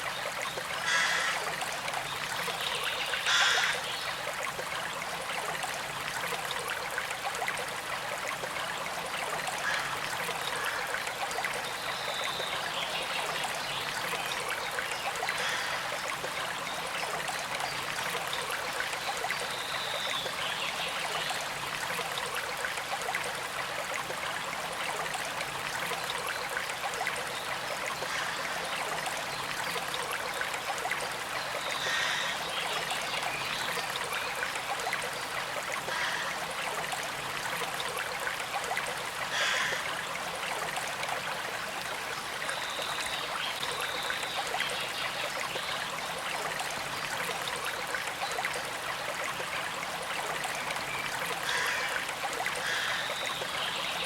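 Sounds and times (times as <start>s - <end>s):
creek trickling: 0.0s - 54.0s.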